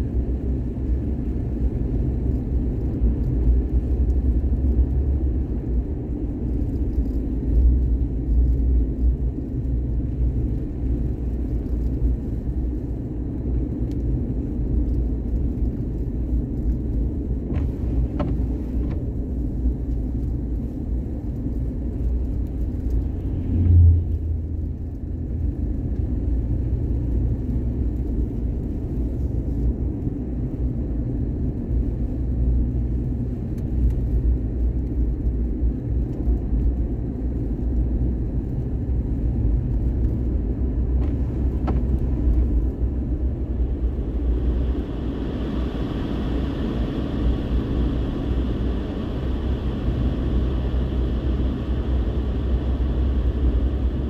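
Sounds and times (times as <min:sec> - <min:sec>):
car rumbling on the move: 0:00.0 - 0:54.0.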